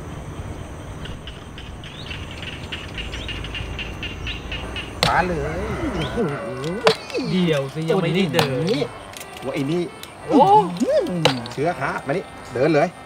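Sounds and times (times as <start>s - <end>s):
low outdoor rumble: 0.0s - 13.0s
small birds chirping: 0.4s - 13.0s.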